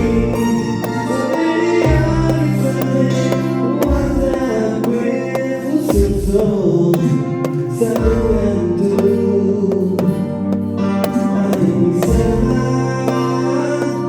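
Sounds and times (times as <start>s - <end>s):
guitar music over a beat: 0.0s - 14.0s.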